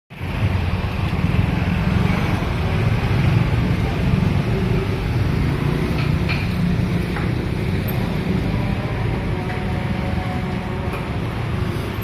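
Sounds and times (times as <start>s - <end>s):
street traffic rumble: 0.1s - 12.0s.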